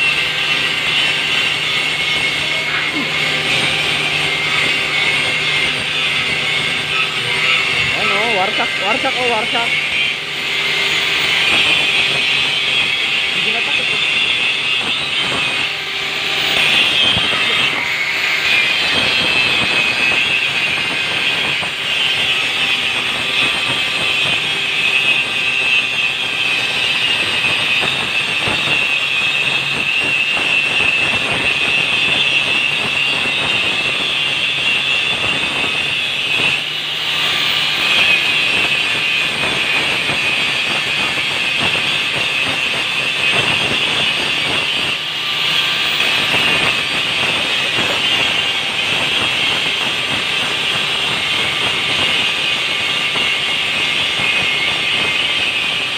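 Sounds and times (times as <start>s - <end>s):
angle grinder grinding metal: 0.0s - 55.9s.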